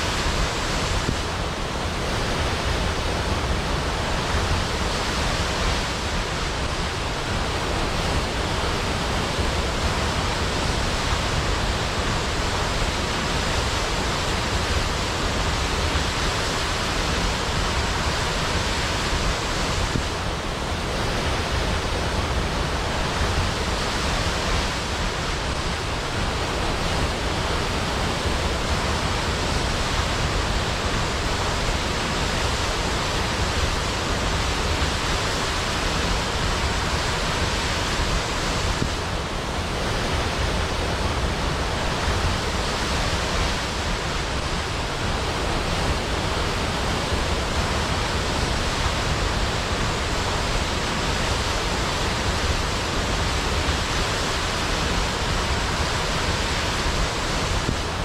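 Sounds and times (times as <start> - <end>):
waterfall rushing into pool: 0.0 - 58.0.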